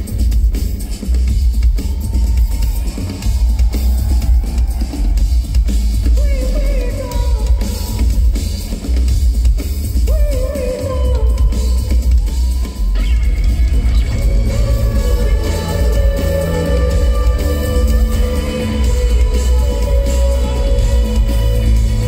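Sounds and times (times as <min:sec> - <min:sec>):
live band music with heavy bass: 0:00.0 - 0:22.0.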